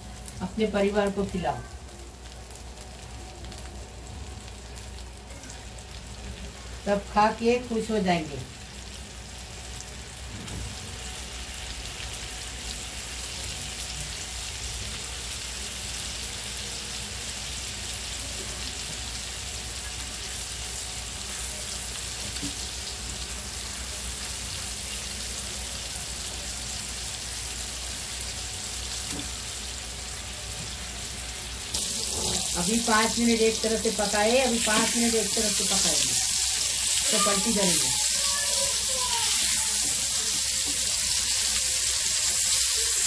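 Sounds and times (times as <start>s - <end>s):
butter sizzling in a frying pan: 0.0s - 43.0s.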